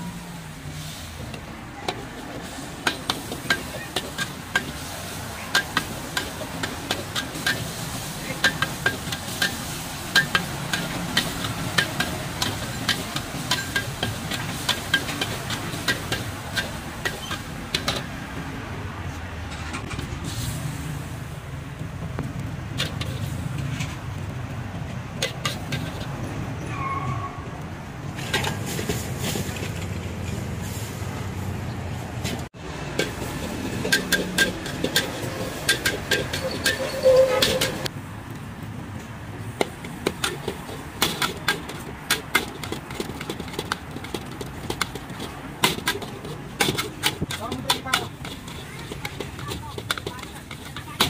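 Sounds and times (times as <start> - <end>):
metal spatula scraping wok: 0.0 - 18.1, 22.7 - 24.0, 25.2 - 27.4, 28.2 - 31.0, 32.2 - 37.9, 39.5 - 51.0.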